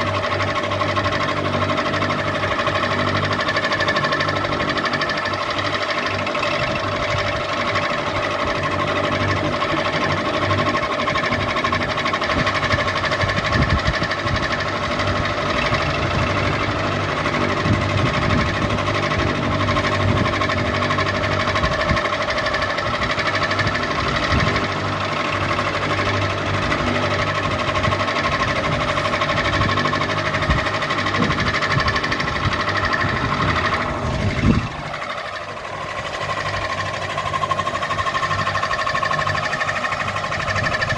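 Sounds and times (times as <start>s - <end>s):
ceiling fan whining and clattering: 0.0s - 40.9s.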